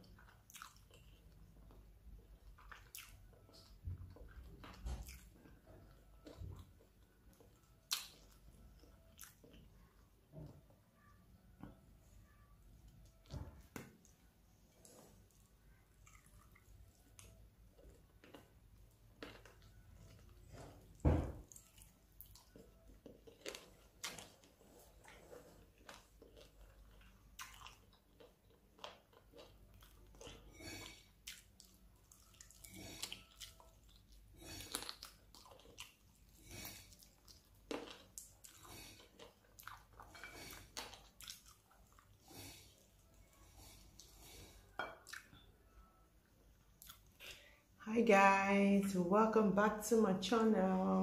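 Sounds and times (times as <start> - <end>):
person chewing food: 0.0 - 47.7.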